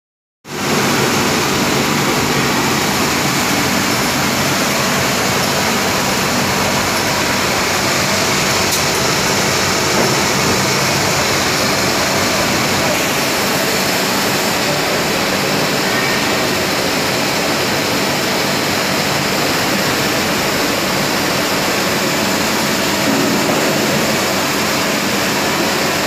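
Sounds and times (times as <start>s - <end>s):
washing machine water rushing: 0.5s - 26.0s.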